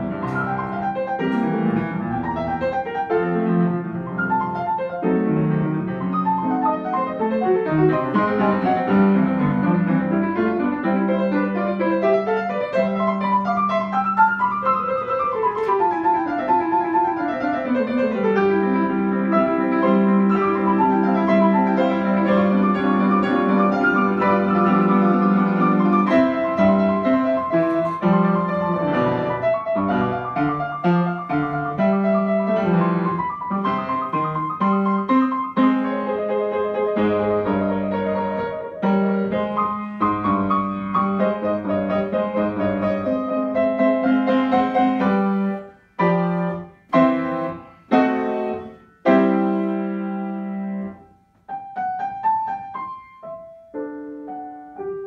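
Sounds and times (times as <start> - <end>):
grand piano four-hands: 0.0 - 55.0.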